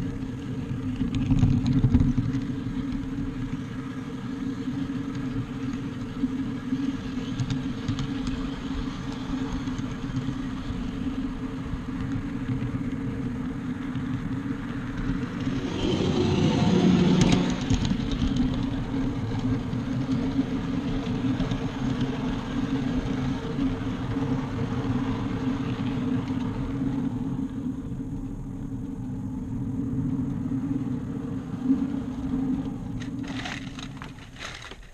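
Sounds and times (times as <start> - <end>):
wheels on rails: 0.0 - 34.9.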